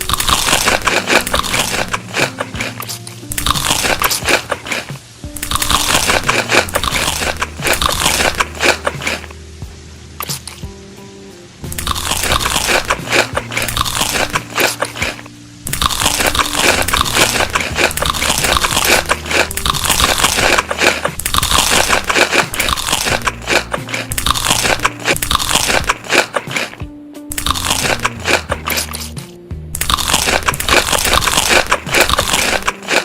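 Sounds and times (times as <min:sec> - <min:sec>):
crunching of crisp food chewed: 0:00.0 - 0:09.4, 0:10.2 - 0:10.6, 0:11.7 - 0:29.2, 0:29.8 - 0:33.0
background music: 0:00.0 - 0:33.0.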